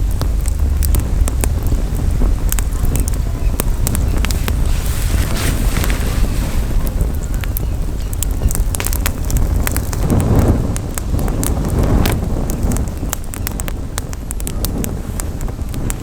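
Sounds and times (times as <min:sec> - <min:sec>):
campfire crackling and popping: 0:00.0 - 0:16.0
wind rumble on microphone: 0:00.0 - 0:16.0.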